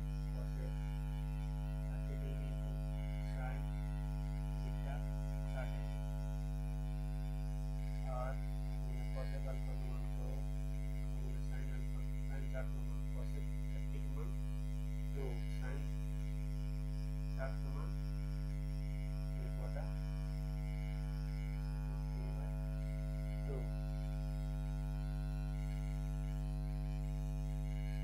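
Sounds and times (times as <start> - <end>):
electrical mains hum: 0.0 - 28.0.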